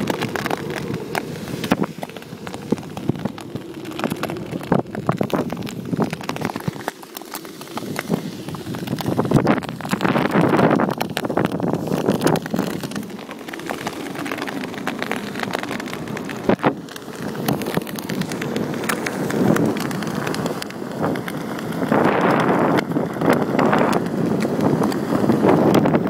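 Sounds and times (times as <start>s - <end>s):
wheels crunching over shells: 0.0s - 26.0s
wind buffeting microphone: 0.0s - 26.0s.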